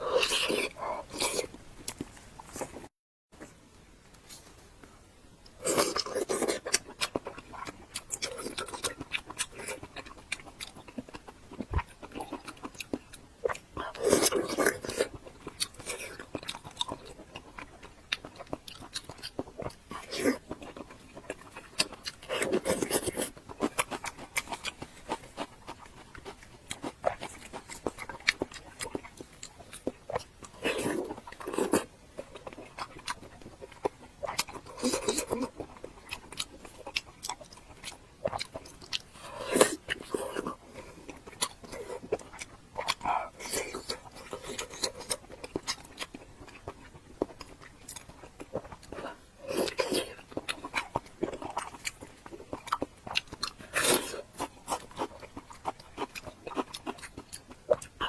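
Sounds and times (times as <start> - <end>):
chewing and biting: 0.0 - 2.9, 5.5 - 58.0.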